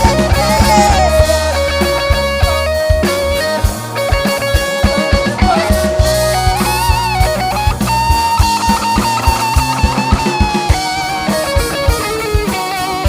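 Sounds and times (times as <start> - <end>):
bass guitar: 0.0 - 13.0
lead guitar holding long note: 0.0 - 13.0
steady drum beat: 0.0 - 13.0.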